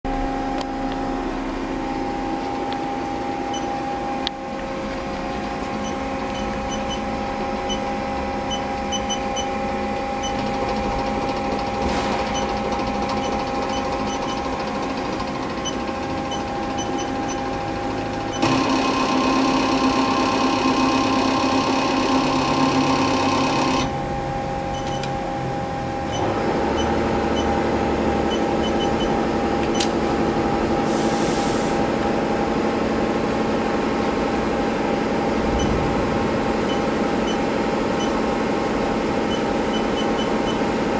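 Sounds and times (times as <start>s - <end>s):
lathe motor whine and hum: 0.1s - 39.7s.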